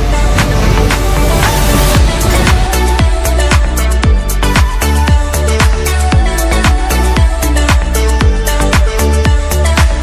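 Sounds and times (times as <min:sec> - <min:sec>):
electronic dance music: 0:00.0 - 0:10.0
deep kick-drum thuds: 0:00.2 - 0:08.4.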